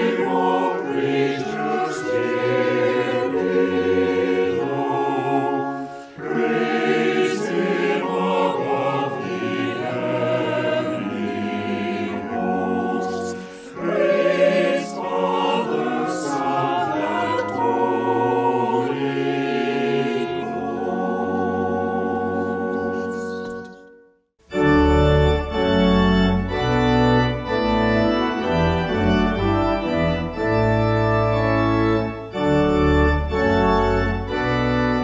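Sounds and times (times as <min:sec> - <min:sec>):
choir with organ: 0:00.0 - 0:35.0
organ playing chords: 0:00.0 - 0:35.0.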